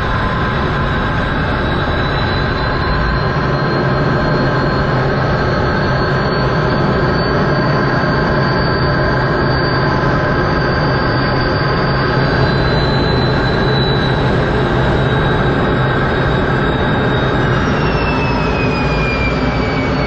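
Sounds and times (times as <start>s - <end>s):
aircraft engine drone: 0.0s - 20.0s
high thin whine: 3.8s - 20.0s.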